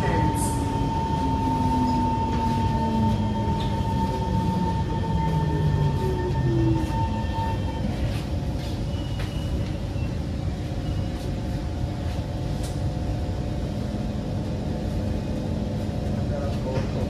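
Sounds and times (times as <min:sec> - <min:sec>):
low steady train tone: 0:00.0 - 0:17.0
train wheels rumbling on track: 0:00.0 - 0:17.0.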